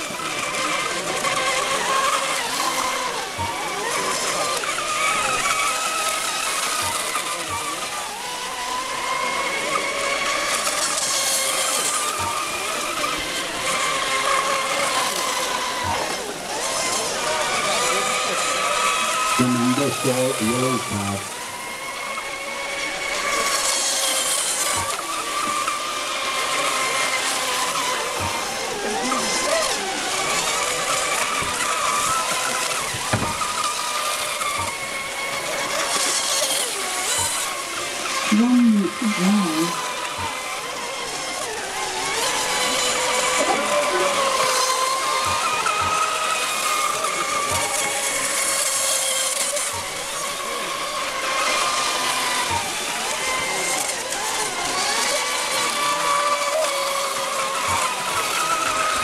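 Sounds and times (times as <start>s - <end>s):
high-pitched boat motor whine: 0.0s - 59.0s.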